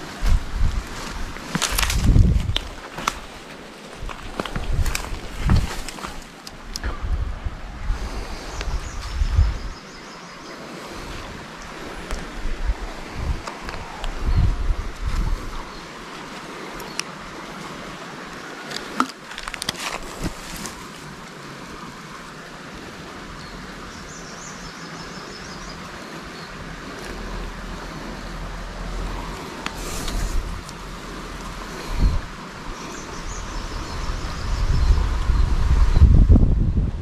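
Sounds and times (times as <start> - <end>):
wind on microphone: 0.0 - 18.1, 18.7 - 37.0
river flowing: 0.0 - 35.9.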